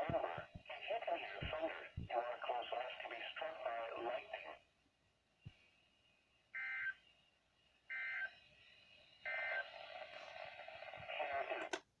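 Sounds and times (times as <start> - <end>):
faint steady radio noise: 0.0 - 11.9.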